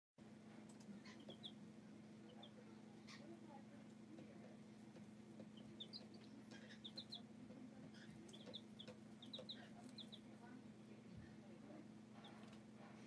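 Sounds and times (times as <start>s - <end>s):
steady low hum: 0.2s - 13.0s
chicks peeping: 0.6s - 11.4s, 12.0s - 13.0s.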